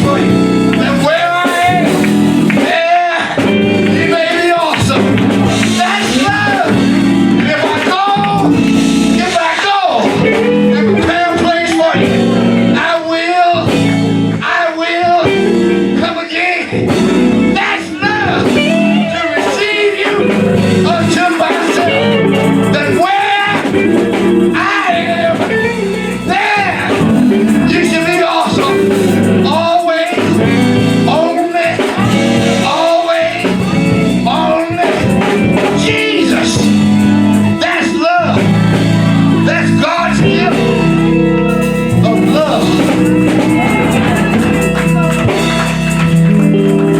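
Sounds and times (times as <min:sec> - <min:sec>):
person singing: 0:00.0 - 0:08.6, 0:09.2 - 0:46.9
band playing with guitar: 0:00.0 - 0:46.9.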